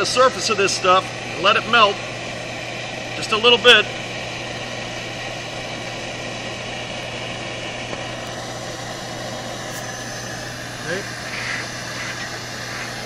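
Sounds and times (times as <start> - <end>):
steady low hum: 0.0 - 13.0
torch flame hissing: 0.0 - 13.0.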